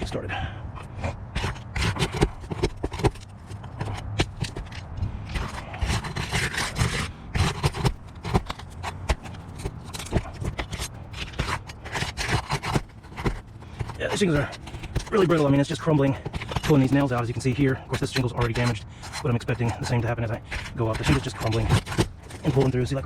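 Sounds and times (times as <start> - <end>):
roof shingles scraping and cracking: 1.4 - 23.0.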